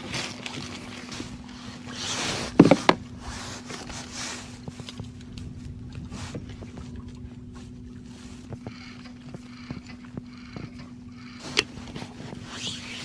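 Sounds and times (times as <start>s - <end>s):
fishing gear rustle: 0.0s - 13.0s
steady low hum: 0.0s - 13.0s.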